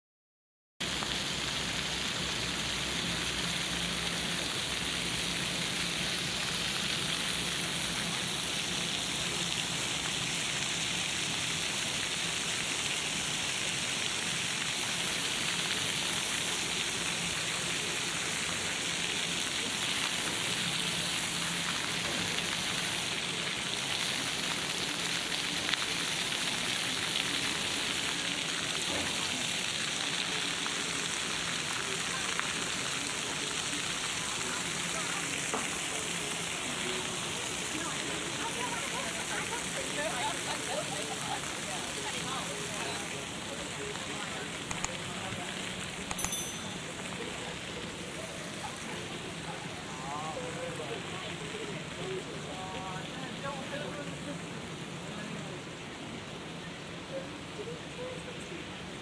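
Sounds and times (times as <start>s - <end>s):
fountain jets splashing into pool: 0.8s - 59.0s.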